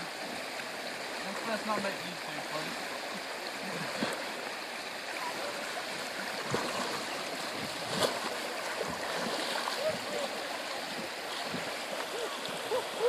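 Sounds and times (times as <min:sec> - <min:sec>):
river rushing and gurgling: 0:00.0 - 0:13.0.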